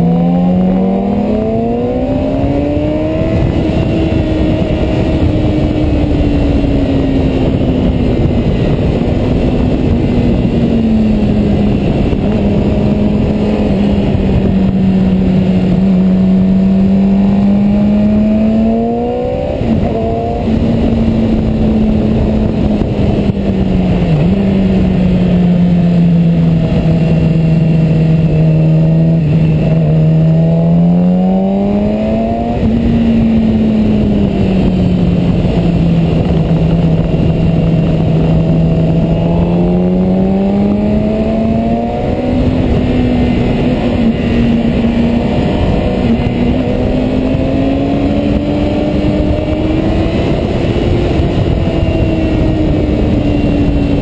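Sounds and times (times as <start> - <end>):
motorcycle engine revving: 0.0 - 54.0
wind rushing: 0.0 - 54.0.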